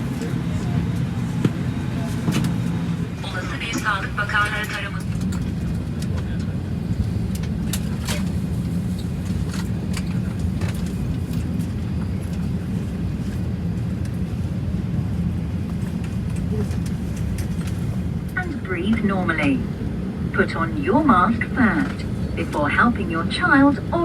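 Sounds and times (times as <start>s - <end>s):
aircraft cabin air hum: 0.0s - 24.0s.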